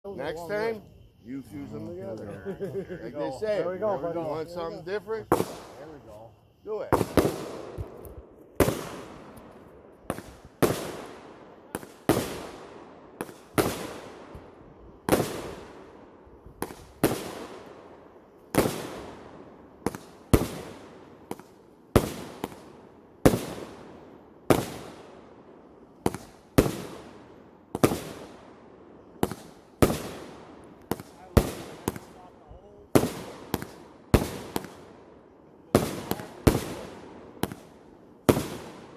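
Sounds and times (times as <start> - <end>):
fireworks banging with echo: 5.2 - 38.9.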